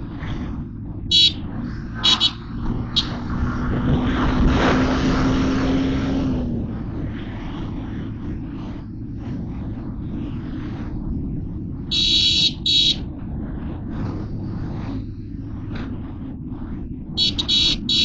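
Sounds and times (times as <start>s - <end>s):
motorcycle engine and road rumble: 0.0s - 18.0s
vehicle passing close: 0.0s - 18.0s
wind: 0.0s - 18.0s.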